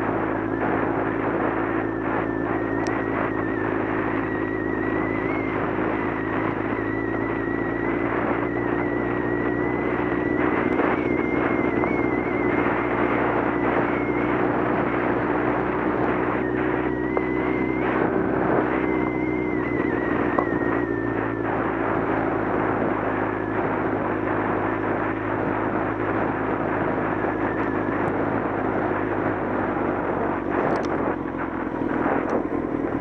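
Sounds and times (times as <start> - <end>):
high whine: 0.0 - 33.0
motorcycle engine cruising: 0.0 - 33.0.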